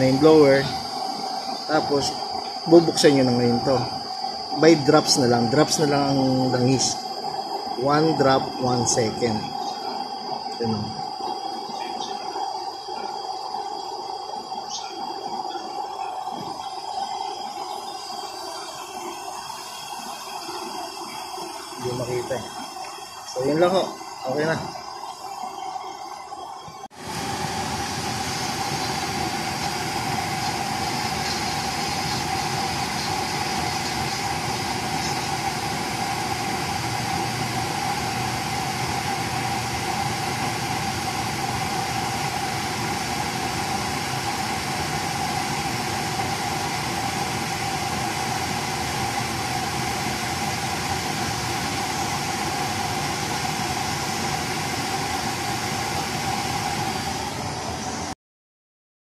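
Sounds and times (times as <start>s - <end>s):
constant whine: 0.0s - 58.2s
oil burner and blower roaring: 0.0s - 58.2s.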